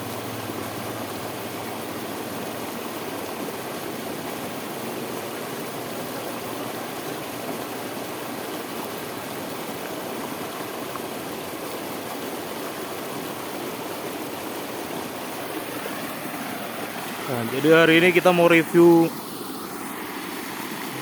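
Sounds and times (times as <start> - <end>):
water pouring over waterfall: 0.0 - 21.0.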